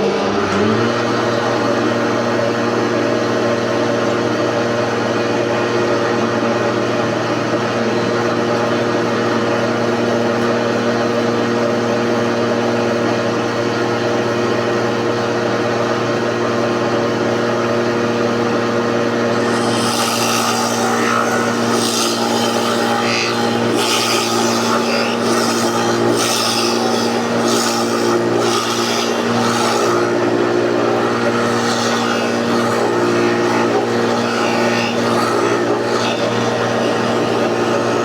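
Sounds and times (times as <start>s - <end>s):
electric hand planer motor whine: 0.0s - 38.0s.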